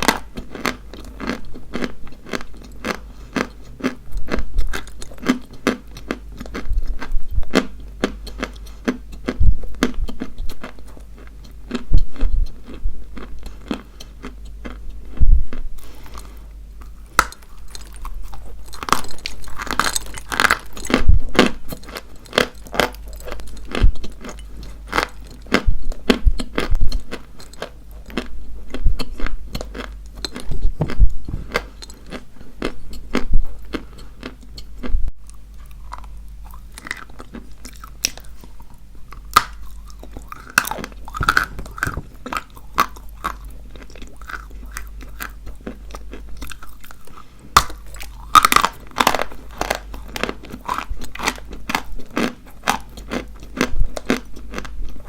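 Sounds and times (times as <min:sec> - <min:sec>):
chalk crunching while chewed: 0:00.0 - 0:55.0.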